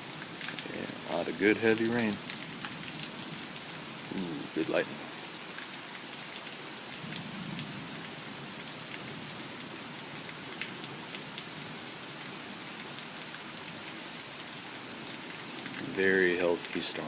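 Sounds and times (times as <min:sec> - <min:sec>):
heavy rain falling: 0:00.0 - 0:17.0
sharp ticks of raindrops: 0:00.0 - 0:17.0.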